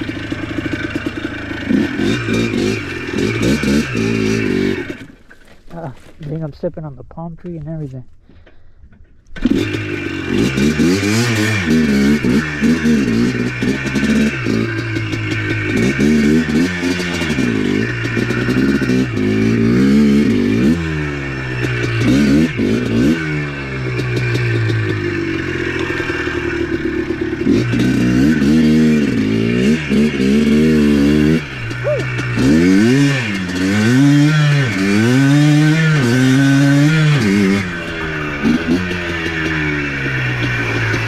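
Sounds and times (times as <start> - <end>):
atv engine revving: 0.0 - 6.1, 9.3 - 41.0.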